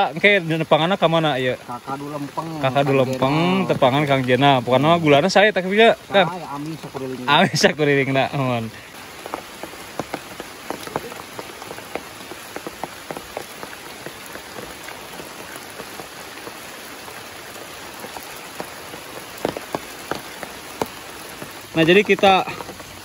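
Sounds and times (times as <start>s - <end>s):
heavy rain falling: 0.0s - 23.0s
sharp raindrops landing close: 0.0s - 23.0s.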